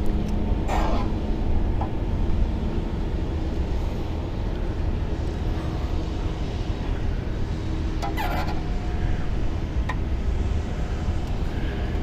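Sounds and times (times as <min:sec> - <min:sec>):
faint steady hum: 0:00.0 - 0:12.0
low mechanical rumble: 0:00.0 - 0:12.0.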